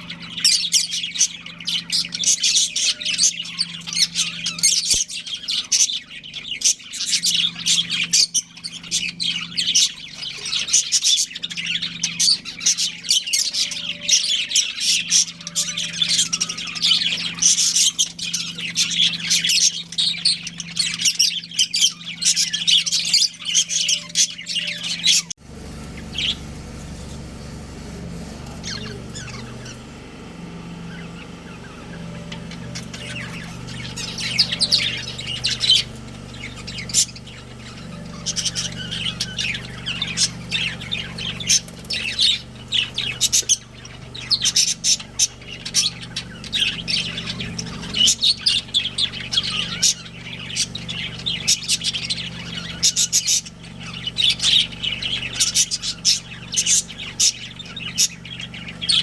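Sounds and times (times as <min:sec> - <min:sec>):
budgerigars chirping: 0:00.0 - 0:59.0
low steady hum: 0:00.0 - 0:59.0.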